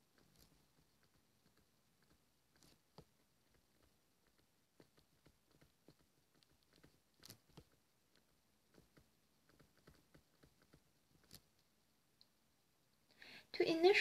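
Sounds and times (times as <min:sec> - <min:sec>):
stylus tapping on tablet screen: 0:00.0 - 0:11.6.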